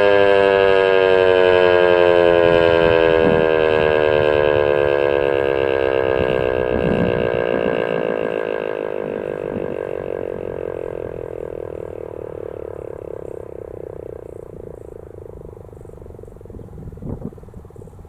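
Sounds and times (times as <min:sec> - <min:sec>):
storm siren winding down: 0:00.0 - 0:16.0.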